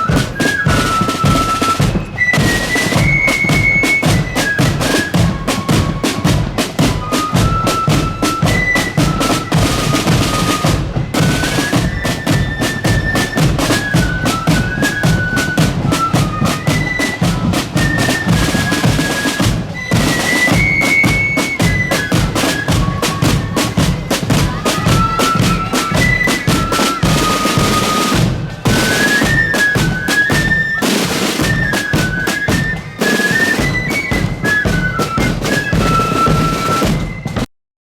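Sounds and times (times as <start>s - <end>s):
flutes playing high melody: 0.0s - 37.5s
rapid snare drumming: 0.0s - 37.5s.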